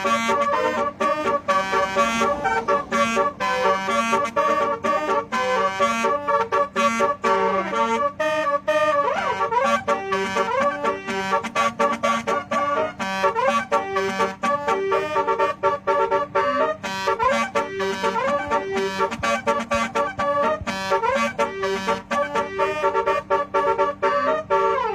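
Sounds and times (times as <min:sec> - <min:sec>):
multi-tone horn playing melody: 0:00.0 - 0:24.9.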